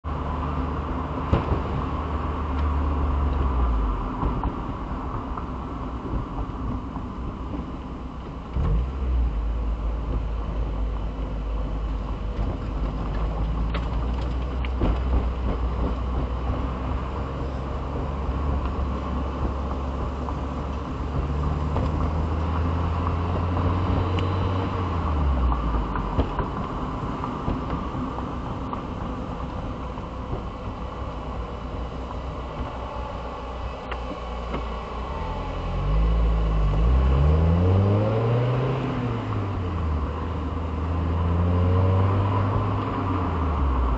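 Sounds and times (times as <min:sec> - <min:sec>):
car engine hum: 0:00.0 - 0:43.9.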